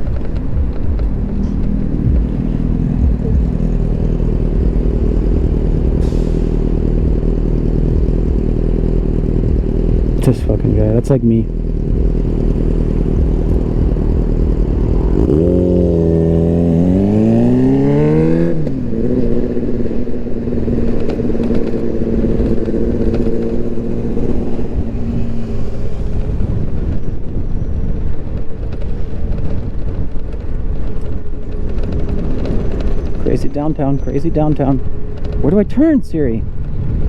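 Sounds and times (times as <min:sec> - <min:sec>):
wind and road rumble: 0:00.0 - 0:37.0.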